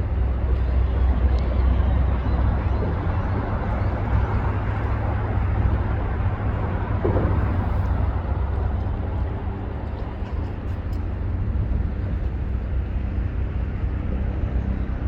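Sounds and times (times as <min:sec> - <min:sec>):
ferry engines rumbling: 0:00.0 - 0:15.0
rush of wind and water: 0:00.0 - 0:15.0.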